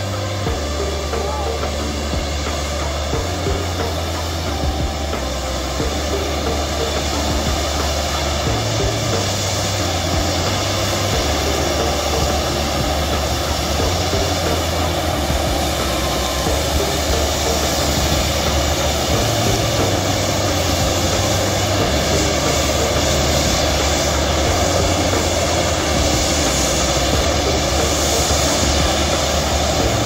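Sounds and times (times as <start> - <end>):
fireworks spraying sparks: 0.0 - 30.0.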